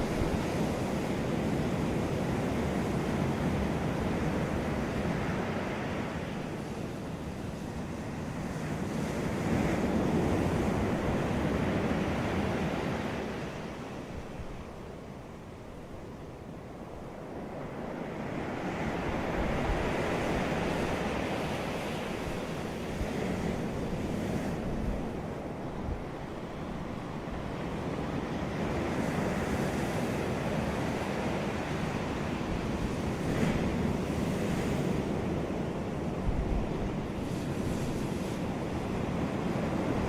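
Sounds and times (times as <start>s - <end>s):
wind on microphone: 0.0s - 14.7s, 17.6s - 40.0s.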